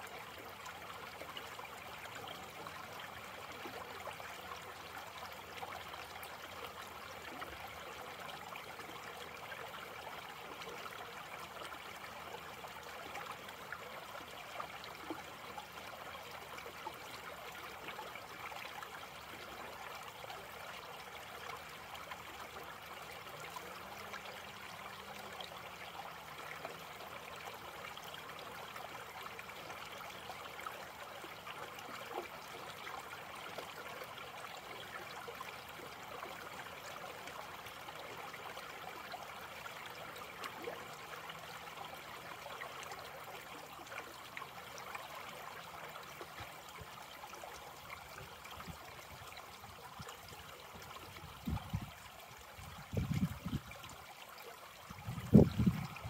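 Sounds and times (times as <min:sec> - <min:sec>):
creek babbling over stones: 0:00.0 - 0:56.0.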